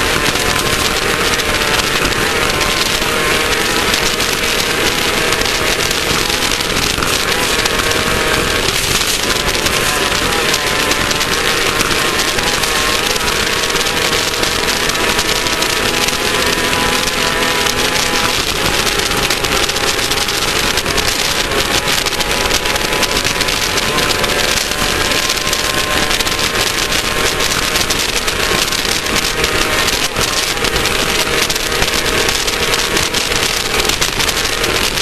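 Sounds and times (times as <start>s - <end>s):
buggy engine running under load: 0.0s - 35.0s
car running over dirt: 0.0s - 35.0s.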